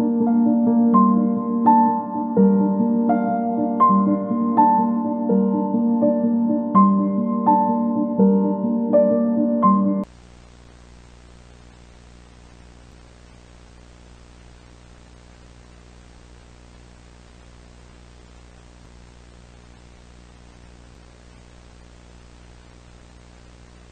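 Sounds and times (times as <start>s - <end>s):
low electrical hum: 0.0s - 23.9s
static hiss: 0.0s - 23.9s.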